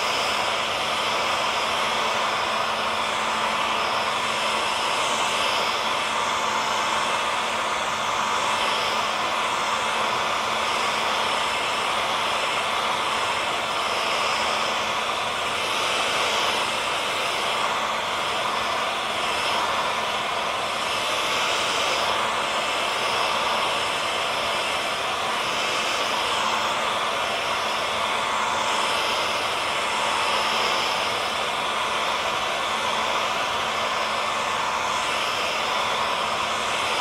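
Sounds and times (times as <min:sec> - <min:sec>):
hair dryer blowing air: 0:00.0 - 0:37.0.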